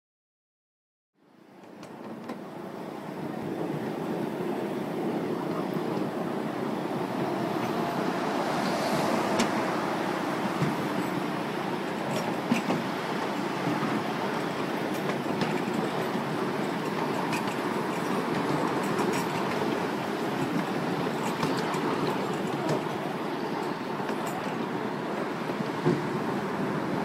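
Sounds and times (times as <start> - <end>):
train wheels rumbling on rails: 1.5 - 27.0.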